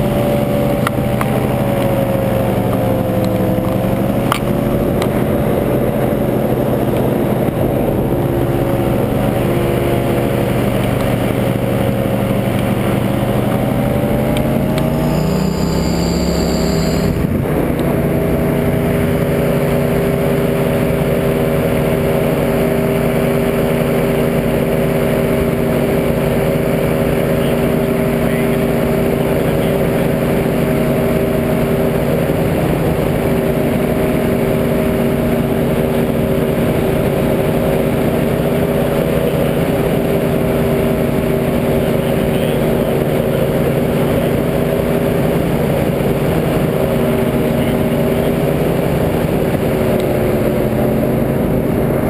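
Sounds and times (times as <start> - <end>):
paramotor engine droning: 0.0 - 52.0.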